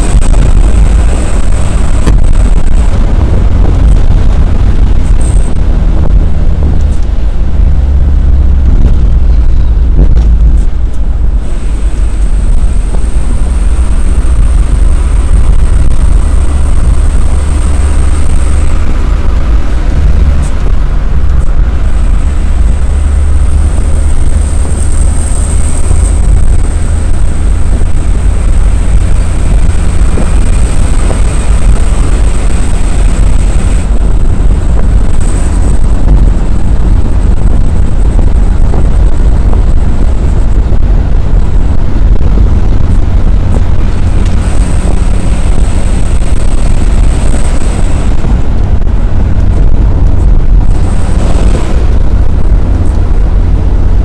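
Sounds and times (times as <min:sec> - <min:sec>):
thin high whine: 0:00.0 - 0:54.0
vehicle engine and road rumble: 0:00.0 - 0:54.0.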